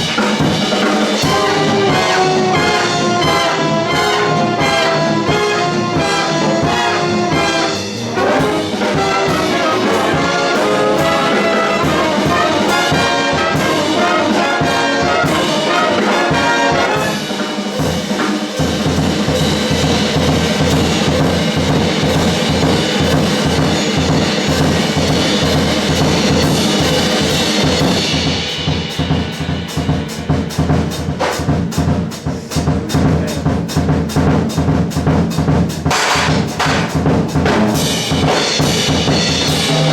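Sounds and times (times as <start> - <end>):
drum kit rapid strikes: 0.0 - 39.9
jazz big band playing: 0.0 - 39.9.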